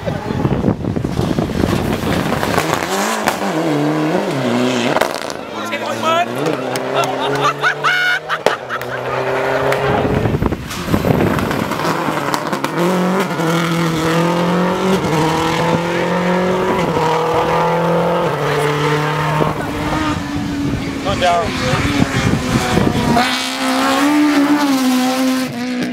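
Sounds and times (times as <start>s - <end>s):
race car engine accelerating: 0.0s - 25.9s.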